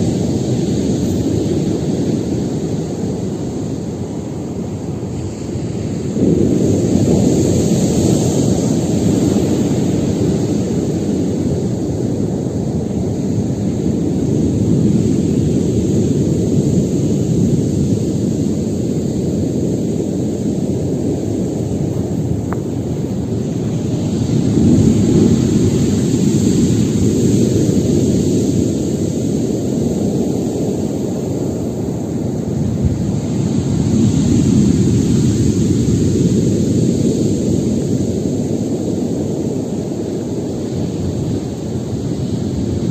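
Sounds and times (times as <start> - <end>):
heavy waves breaking: 0.0 - 42.9.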